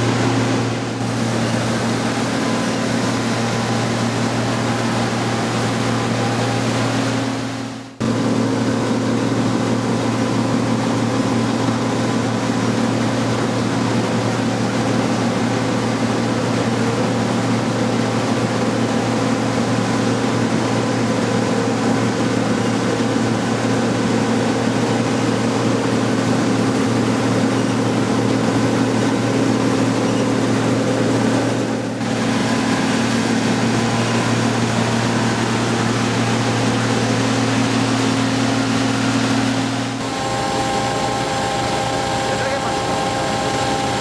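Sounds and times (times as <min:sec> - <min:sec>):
combine harvester drone: 0:00.0 - 0:44.0.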